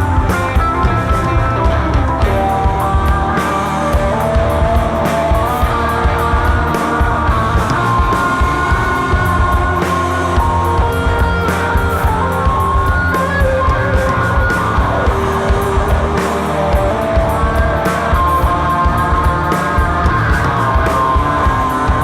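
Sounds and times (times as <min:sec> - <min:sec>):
drum and cymbal hits: 0:00.0 - 0:22.0
rock band playing live: 0:00.0 - 0:22.0.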